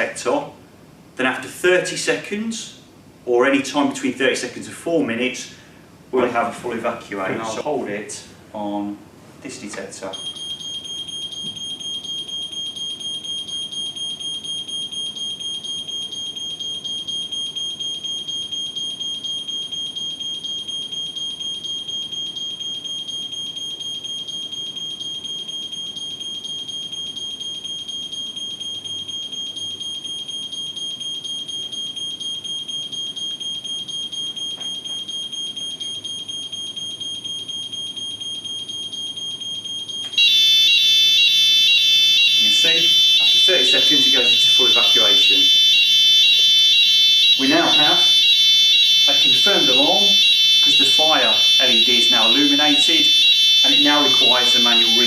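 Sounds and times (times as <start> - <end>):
loud alarm sounders: 10.0 - 55.0
alarm panel buzzer tone: 10.2 - 55.0.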